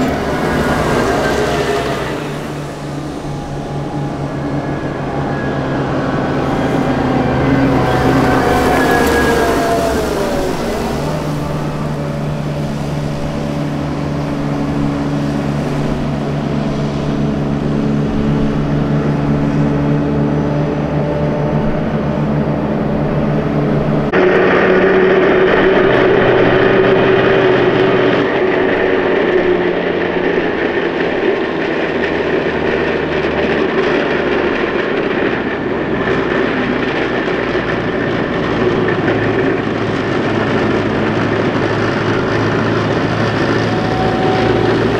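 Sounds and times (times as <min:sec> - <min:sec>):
diesel engine droning: 0:00.0 - 0:44.9
tracked vehicle engine whine: 0:00.0 - 0:44.9.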